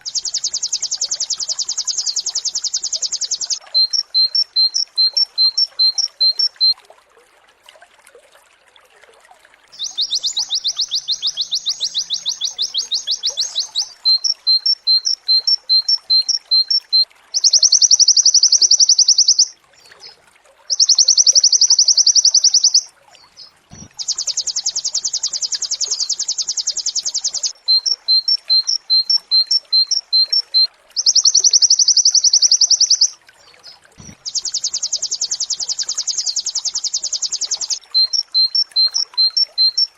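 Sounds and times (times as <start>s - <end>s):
bird trilling and chirping: 0.0s - 6.7s, 9.8s - 19.5s, 20.7s - 39.9s.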